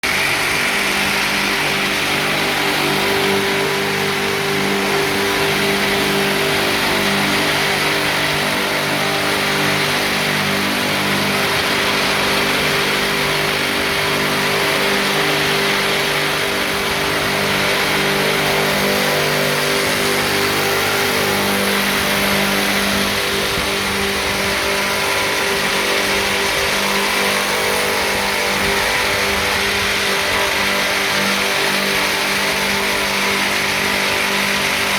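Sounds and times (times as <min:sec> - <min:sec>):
wood milling machine running: 0:00.0 - 0:34.9.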